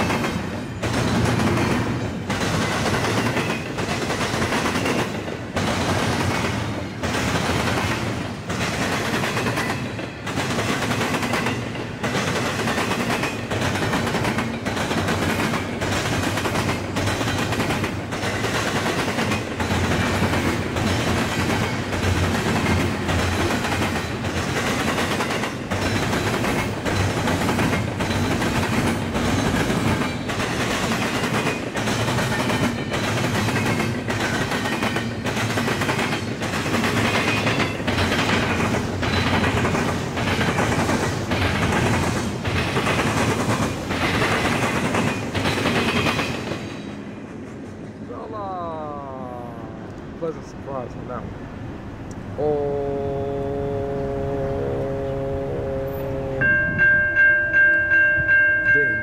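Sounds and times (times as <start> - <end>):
train wheels clattering over joints: 0.0 - 48.0
rumble of rolling train cars: 0.0 - 59.0.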